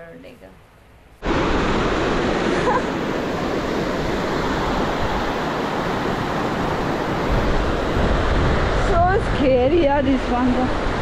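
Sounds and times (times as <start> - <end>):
fast-flowing river water: 1.2 - 11.0.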